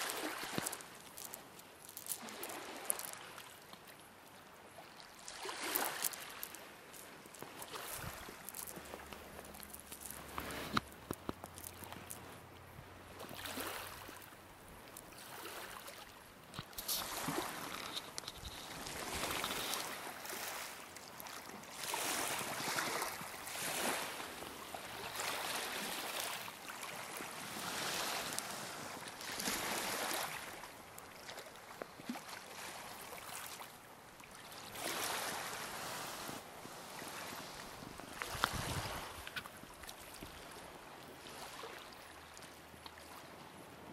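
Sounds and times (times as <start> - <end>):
waves washing on pebble shore: 0.0 - 3.7, 4.8 - 12.5, 13.1 - 33.8, 34.5 - 40.6.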